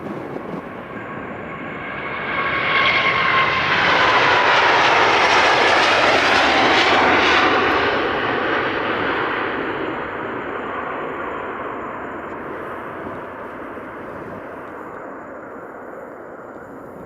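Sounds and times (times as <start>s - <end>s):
jet roar passing by: 0.0s - 17.0s.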